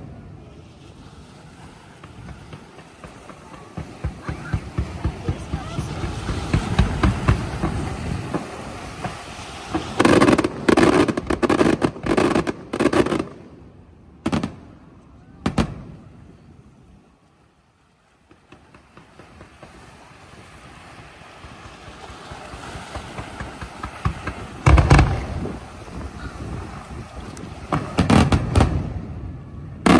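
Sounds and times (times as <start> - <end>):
fireworks crackling: 0.0 - 17.3, 17.9 - 29.9
firework bangs: 1.9 - 13.6, 14.2 - 16.3, 18.3 - 29.9.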